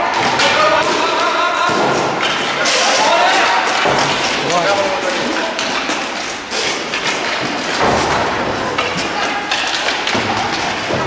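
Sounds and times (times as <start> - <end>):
hockey sticks and ball knocking: 0.0 - 11.0
skates rolling: 0.0 - 11.0.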